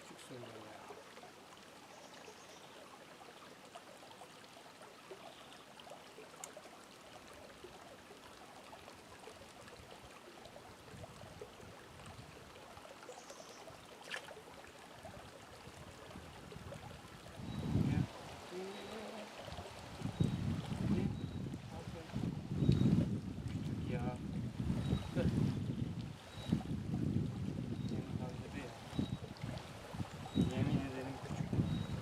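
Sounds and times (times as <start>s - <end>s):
creek flowing and trickling: 0.0s - 32.0s.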